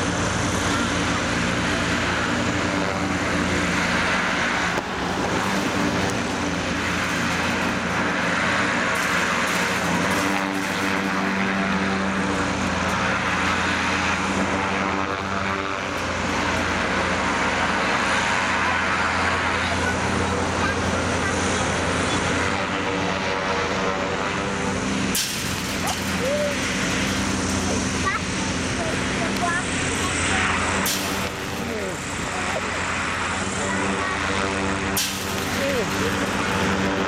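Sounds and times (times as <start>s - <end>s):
airship engines and propellers droning: 0.0s - 37.0s.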